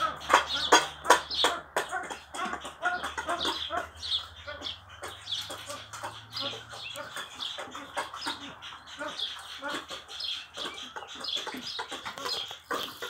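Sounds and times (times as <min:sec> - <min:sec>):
fowl clucking: 0:00.0 - 0:13.0.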